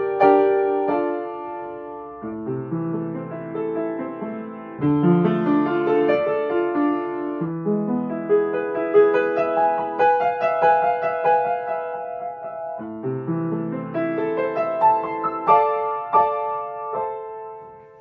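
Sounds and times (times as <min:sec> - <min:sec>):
solo piano melody: 0:00.0 - 0:18.0.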